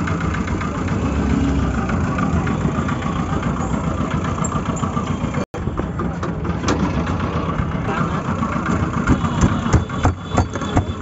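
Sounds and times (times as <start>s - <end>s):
vehicle engines running and idling: 0.0s - 11.0s.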